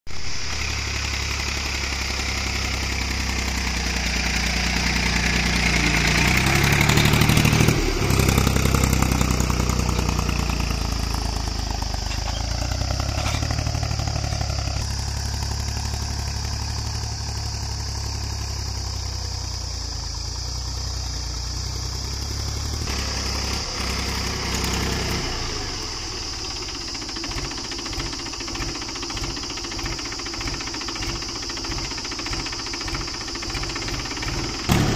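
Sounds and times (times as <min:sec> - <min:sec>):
tractor diesel engine chugging: 0:00.1 - 0:34.9.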